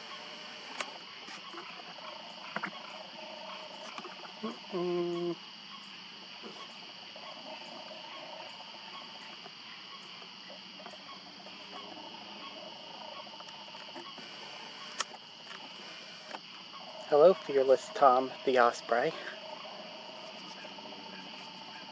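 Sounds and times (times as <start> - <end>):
high-pitched chorus of calling animals: 0.0 - 15.0, 15.6 - 21.9.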